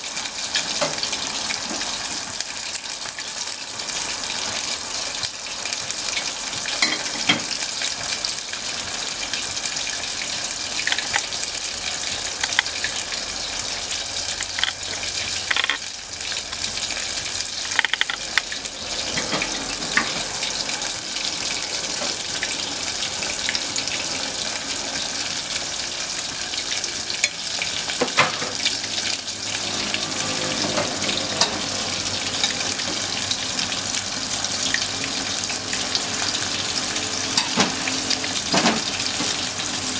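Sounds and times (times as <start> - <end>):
meat deep-frying in hot oil: 0.0 - 39.9
oil popping and crackling: 0.0 - 39.9.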